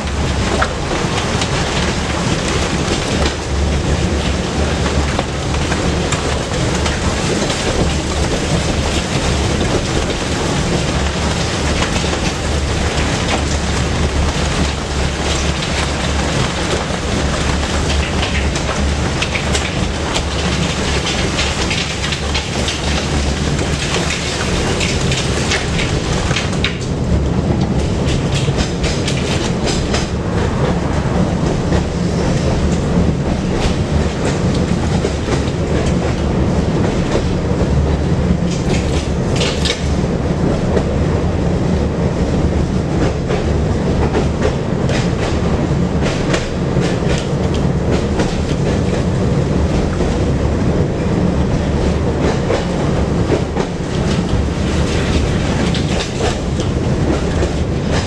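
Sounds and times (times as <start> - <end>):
wheels clicking over rail joints: 0.0 - 30.8, 31.4 - 40.9, 42.9 - 50.3, 51.1 - 58.0
tram running gear hum: 0.0 - 58.0.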